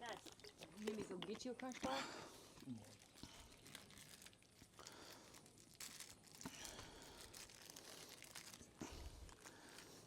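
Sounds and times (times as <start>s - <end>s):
plastic wrapper crinkling: 0.0s - 1.8s, 2.6s - 10.0s.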